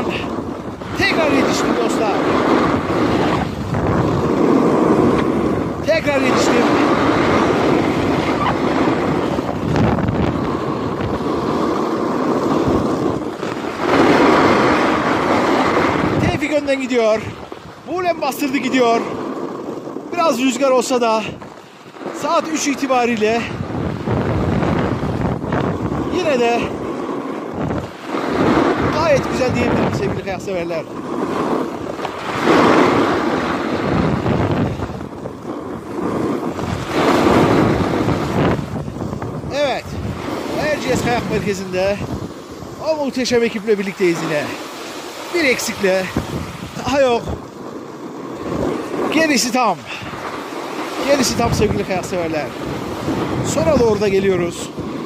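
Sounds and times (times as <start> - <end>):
skis scraping on icy snow: 0.0 - 55.0
wind buffeting microphone: 0.0 - 55.0.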